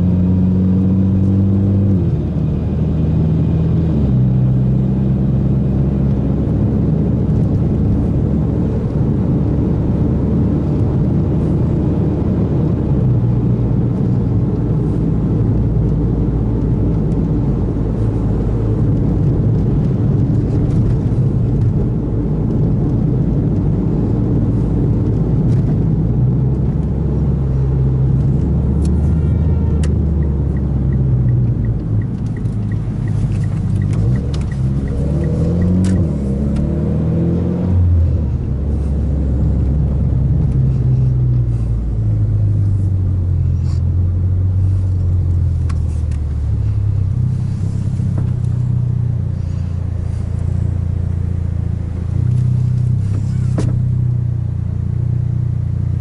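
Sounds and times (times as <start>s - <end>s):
car engine running: 0.0s - 56.0s
road noise inside car: 0.0s - 56.0s.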